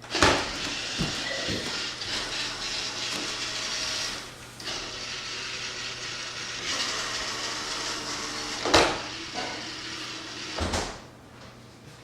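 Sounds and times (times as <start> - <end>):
robot vacuum motors whirring: 0.0 - 10.9.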